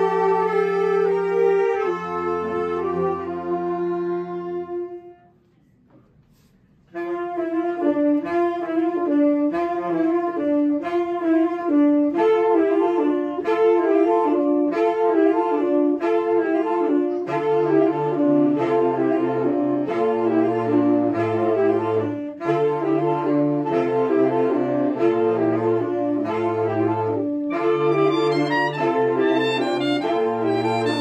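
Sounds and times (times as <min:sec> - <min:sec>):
saxophone ensemble playing: 0:00.0 - 0:05.4, 0:06.9 - 0:31.0.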